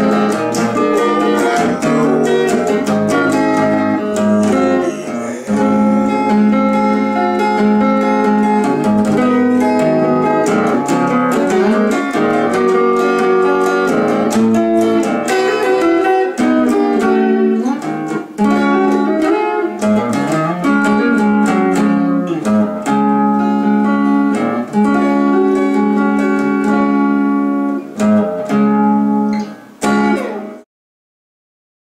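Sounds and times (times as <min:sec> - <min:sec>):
blues electric guitar: 0:00.0 - 0:30.6.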